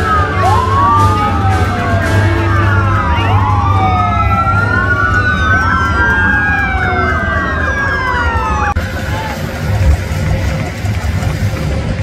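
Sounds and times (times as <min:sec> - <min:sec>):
sirens wailing: 0:00.0 - 0:11.1.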